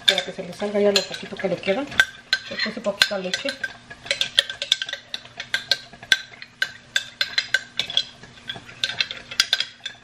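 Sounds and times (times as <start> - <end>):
spoon clinking in a jar: 2.0 - 10.0.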